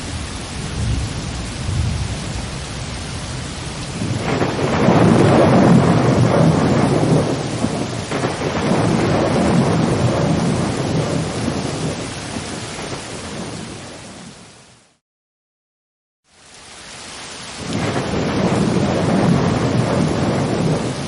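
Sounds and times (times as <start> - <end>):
rolling thunder: 0.0 - 14.4, 17.6 - 21.0
rain: 0.0 - 15.0, 16.2 - 21.0.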